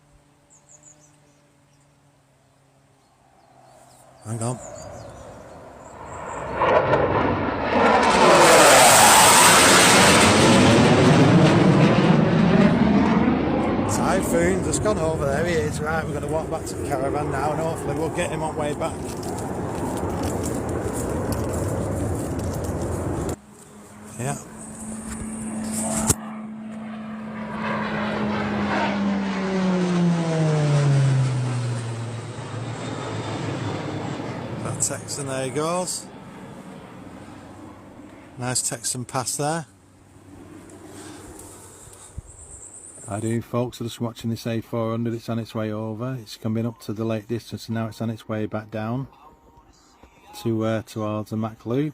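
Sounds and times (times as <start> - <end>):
jet flying low overhead: 0.0 - 46.4.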